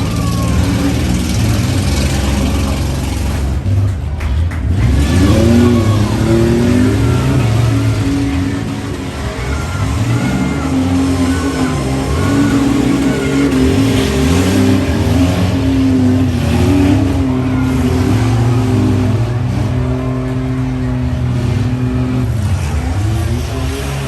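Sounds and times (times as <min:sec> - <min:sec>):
several engines revving: 0:00.0 - 0:24.0.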